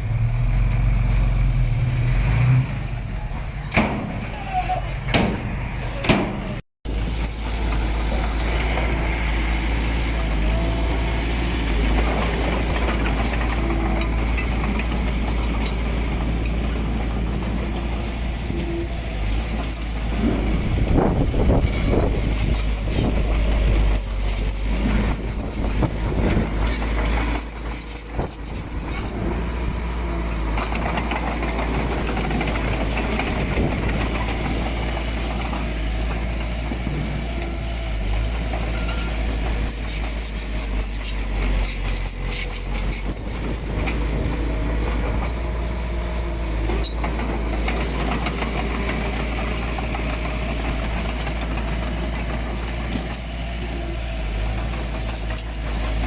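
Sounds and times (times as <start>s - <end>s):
diesel engine rumbling: 0.0s - 56.0s
clanking and rattling: 2.9s - 18.5s, 19.2s - 53.7s.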